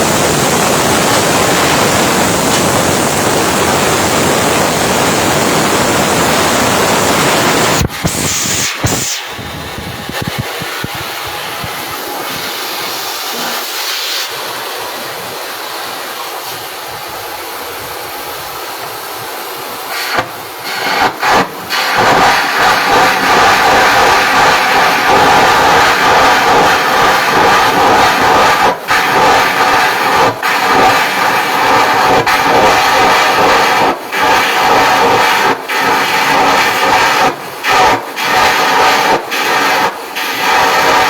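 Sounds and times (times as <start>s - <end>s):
welding arc hissing and crackling: 0.0s - 17.1s, 18.0s - 41.0s.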